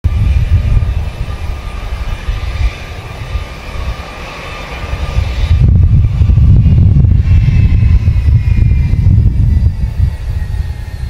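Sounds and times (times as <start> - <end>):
jet engines whining and rumbling: 0.0 - 11.0.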